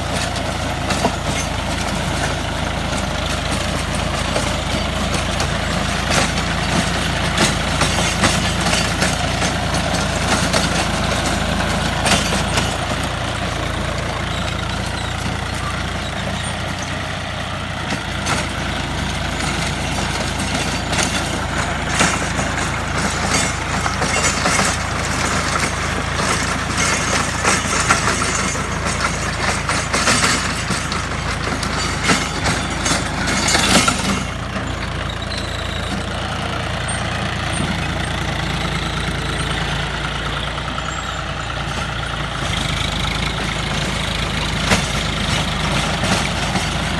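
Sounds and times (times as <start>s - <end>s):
rotary tiller knocking and clattering: 0.0s - 46.9s
tractor engine running: 0.0s - 46.9s.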